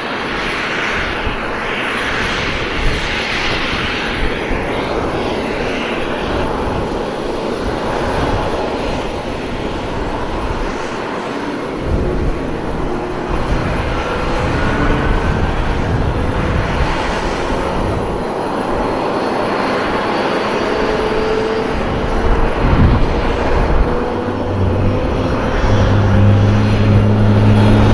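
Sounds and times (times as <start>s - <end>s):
plane engine rushing: 0.0s - 27.9s.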